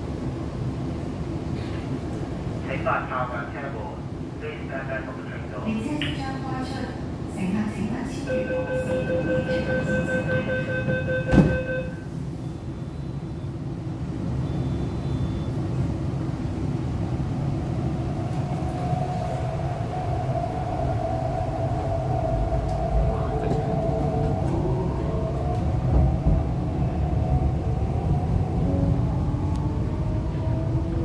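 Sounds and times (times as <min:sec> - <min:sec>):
train rumble: 0:00.0 - 0:31.0
rising train motor whine: 0:02.2 - 0:31.0.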